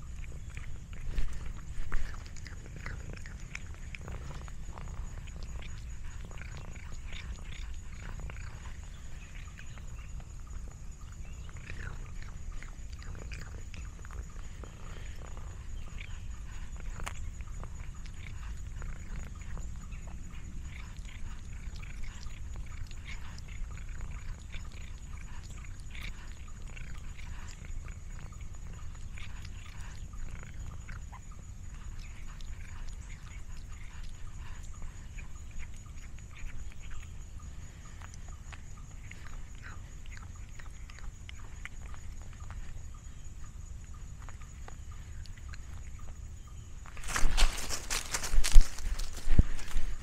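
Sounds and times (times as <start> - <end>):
small crackles and clicks: 0.0 - 37.2, 46.8 - 50.0
cat purring: 0.0 - 46.2.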